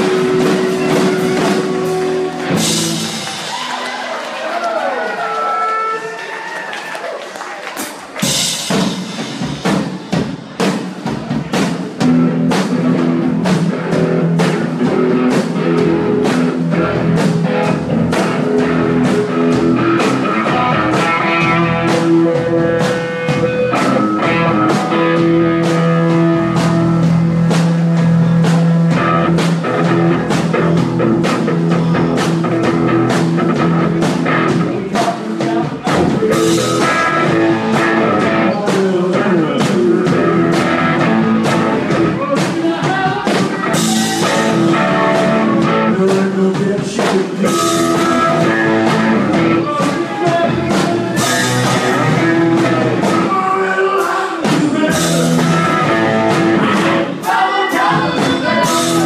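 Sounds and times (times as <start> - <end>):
electric guitar: 0.0 - 3.9, 11.5 - 59.0
drums keeping a beat: 0.0 - 4.1, 7.6 - 59.0.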